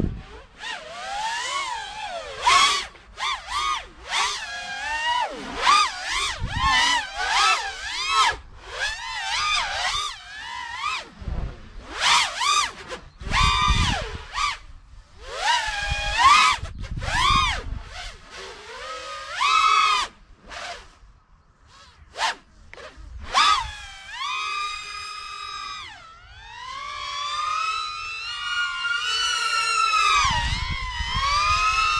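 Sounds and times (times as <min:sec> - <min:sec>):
drone motors whining: 0:00.0 - 0:21.0, 0:21.6 - 0:31.9.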